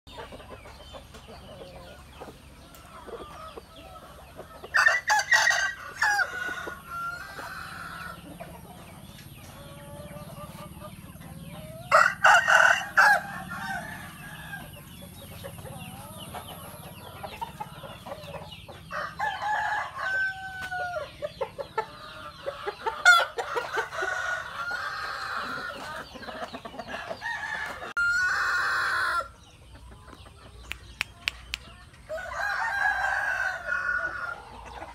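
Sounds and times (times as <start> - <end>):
roosters crowing: 0.1 - 29.6, 32.0 - 34.9
hens clucking: 0.1 - 34.9.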